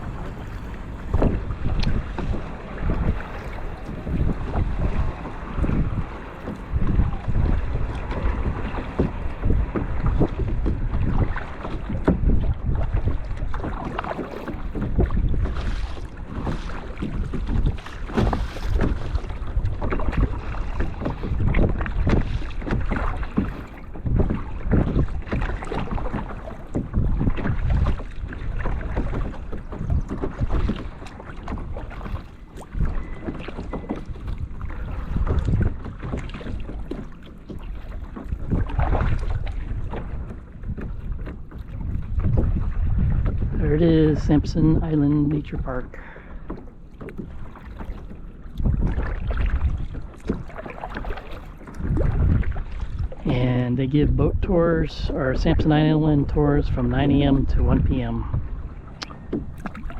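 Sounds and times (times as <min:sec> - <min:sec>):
paddle splashing in water: 0:00.0 - 0:59.9
wind rumbling on microphone: 0:00.0 - 0:59.9.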